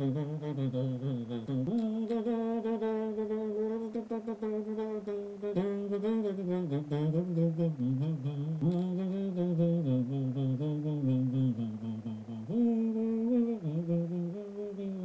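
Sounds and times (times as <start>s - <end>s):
man singing slow melody: 0.0s - 15.0s.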